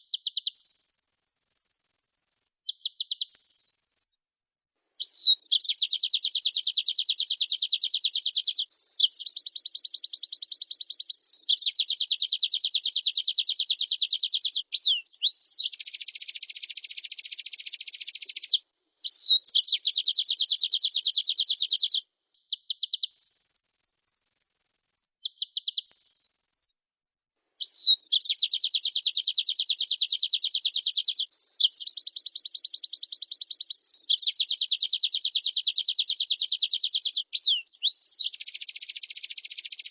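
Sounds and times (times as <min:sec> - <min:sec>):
bird singing fast trills: 0:00.1 - 0:04.2, 0:05.2 - 0:18.5, 0:22.8 - 0:26.7, 0:27.7 - 0:39.9.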